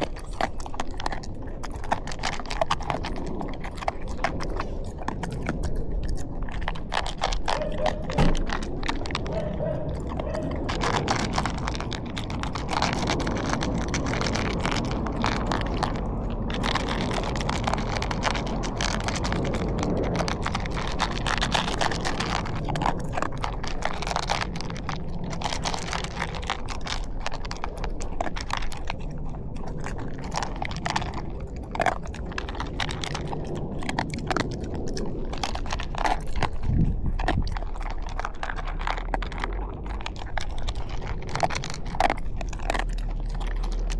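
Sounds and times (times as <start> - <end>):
dog crunching dry kibble: 0.0 - 43.9.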